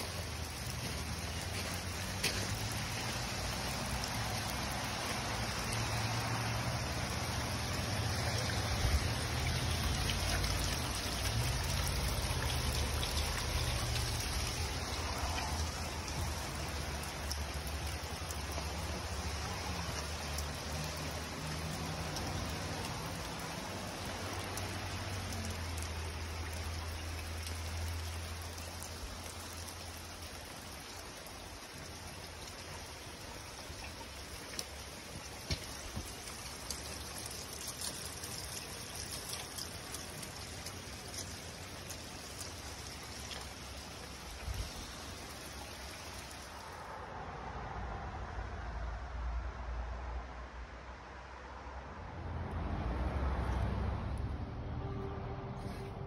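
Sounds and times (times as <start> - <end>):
rain falling on gravel: 0.0 - 47.2.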